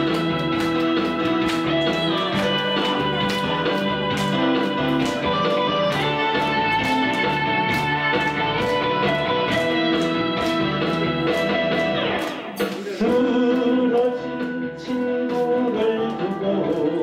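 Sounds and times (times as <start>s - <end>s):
audience clapping along: 0.0s - 13.7s
backing track with steady beat: 0.0s - 17.0s
electric guitar melody: 0.0s - 17.0s.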